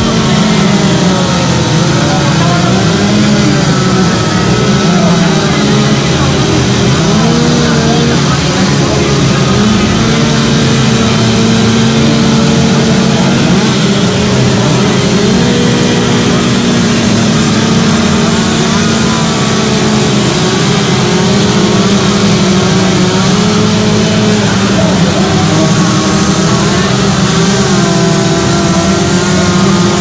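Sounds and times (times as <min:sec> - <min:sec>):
chainsaws cutting wood: 0:00.0 - 0:30.0.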